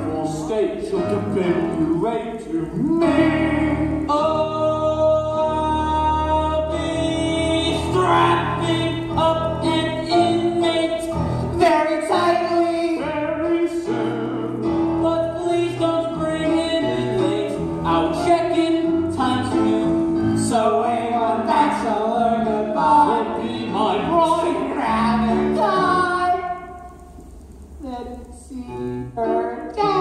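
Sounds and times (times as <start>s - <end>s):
person singing: 0.0s - 26.6s, 27.8s - 30.0s.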